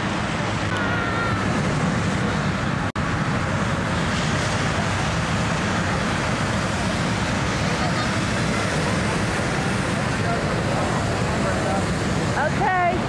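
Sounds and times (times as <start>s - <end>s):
inflation fans droning: 0.0s - 13.0s.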